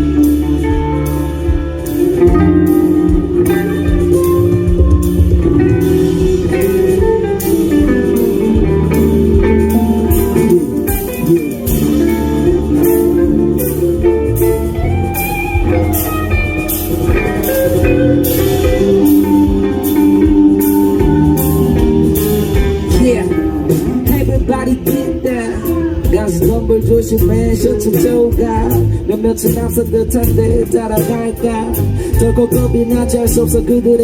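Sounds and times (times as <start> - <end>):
electric guitar lines: 0.0 - 34.0
live band playing: 0.0 - 34.0.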